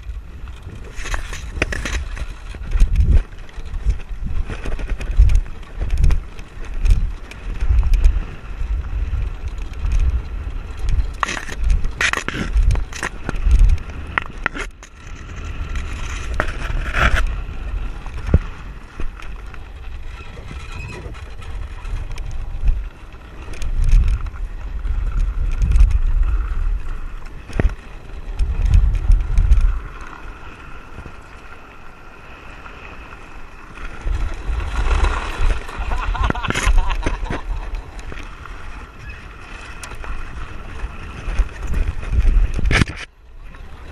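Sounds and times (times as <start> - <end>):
low rumble of wheels on sand: 0.0 - 43.9
wind on microphone: 0.0 - 43.9.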